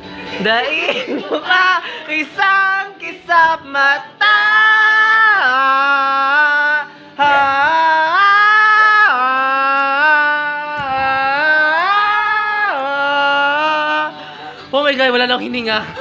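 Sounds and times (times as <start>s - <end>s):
person singing a vocal run: 0.3s - 14.7s.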